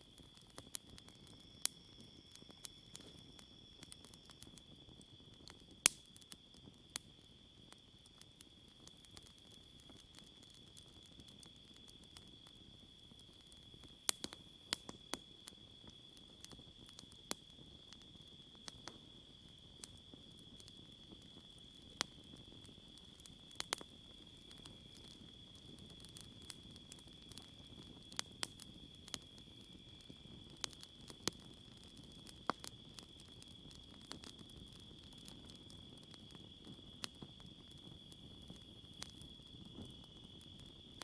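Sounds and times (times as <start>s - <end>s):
campfire crackling and popping: 0.0s - 41.0s
insect chorus: 0.0s - 41.0s.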